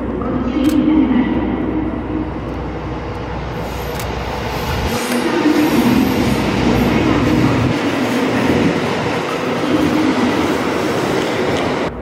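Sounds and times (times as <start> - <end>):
train wheels rumbling on rails: 2.0 - 12.0.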